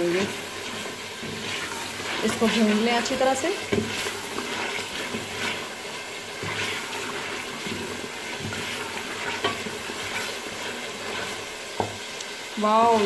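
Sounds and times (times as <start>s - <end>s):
meat sizzling in a pot: 0.0s - 13.0s
wooden spoon scraping a pot: 0.0s - 13.0s.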